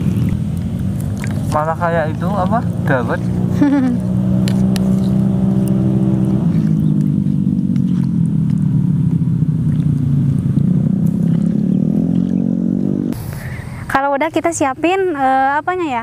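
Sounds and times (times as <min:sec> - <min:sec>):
vehicle engine idling: 0:00.0 - 0:14.8.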